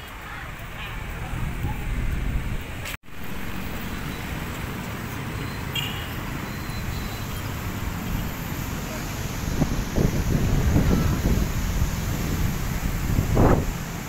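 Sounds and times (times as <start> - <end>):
traffic hiss and rumble: 0.0 - 14.0.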